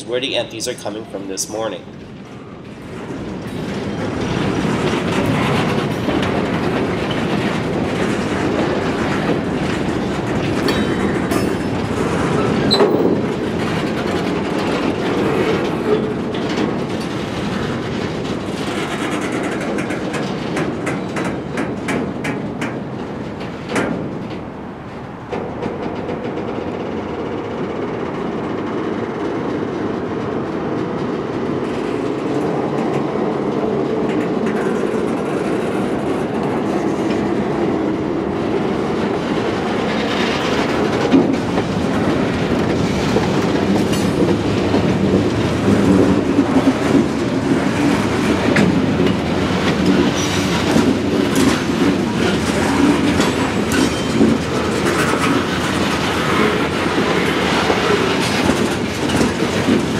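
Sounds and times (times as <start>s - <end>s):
train wheels clacking on rail joints: 0.2s - 59.9s.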